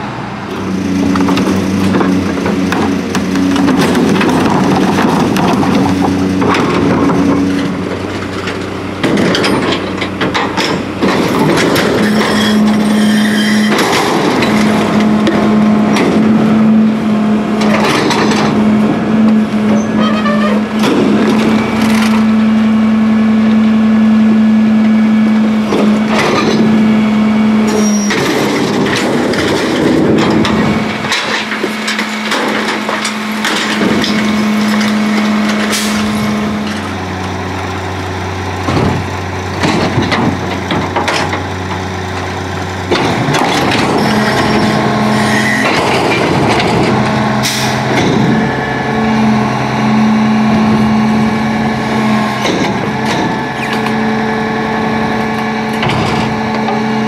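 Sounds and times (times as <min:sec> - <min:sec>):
truck engine droning: 0:00.0 - 0:57.0
bins banging and clattering: 0:01.0 - 0:22.4, 0:25.6 - 0:27.0, 0:27.6 - 0:37.0, 0:38.6 - 0:57.0.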